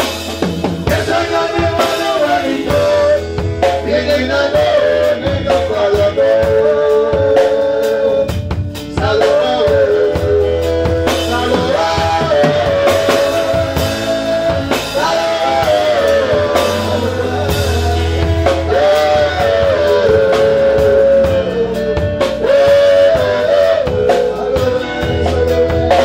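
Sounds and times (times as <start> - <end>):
band with drums: 0.0 - 26.0
man and woman singing: 0.8 - 26.0.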